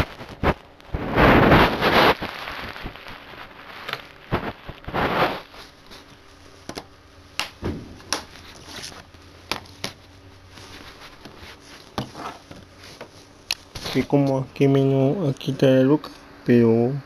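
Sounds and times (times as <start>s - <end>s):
rustling and scraping: 0.0s - 6.9s, 7.7s - 16.3s.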